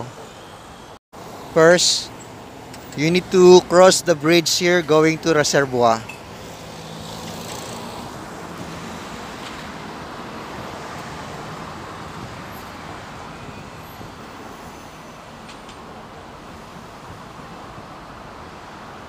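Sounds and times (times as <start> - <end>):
highway traffic hum: 0.0 - 19.0.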